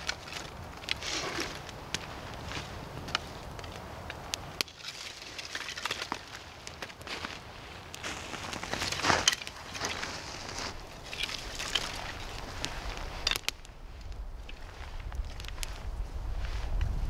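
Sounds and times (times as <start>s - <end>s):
dry wood cracking and splintering: 0.0s - 16.0s.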